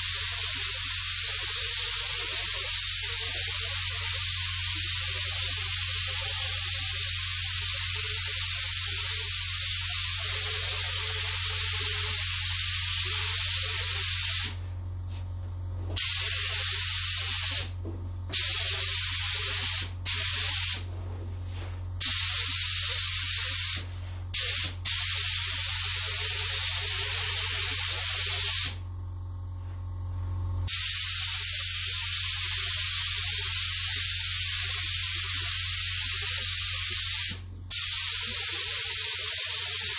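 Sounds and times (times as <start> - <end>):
paint spray gun hissing: 0.0 - 14.6, 16.0 - 20.9, 21.9 - 28.8, 30.6 - 39.9.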